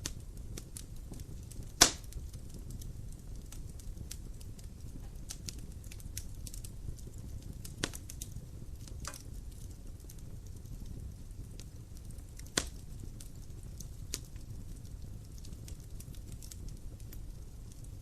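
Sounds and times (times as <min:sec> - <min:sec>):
firewood crackling and popping: 0:00.0 - 0:18.0
flame rumble: 0:00.0 - 0:18.0.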